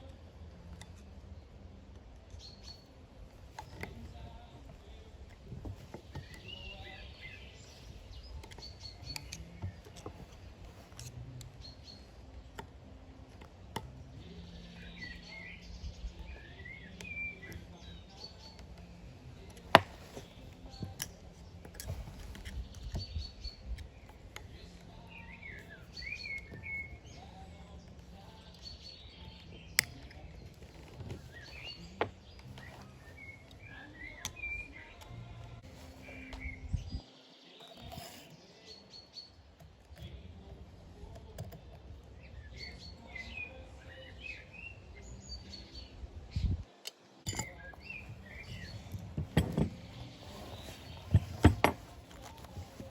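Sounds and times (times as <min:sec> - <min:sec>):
birds chirping and singing: 0:00.0 - 0:52.9.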